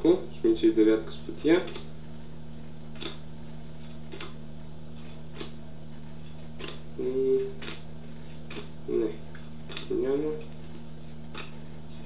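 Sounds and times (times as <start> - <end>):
electrical hum: 0.0 - 12.0
low hum like hummed voice: 0.0 - 12.0.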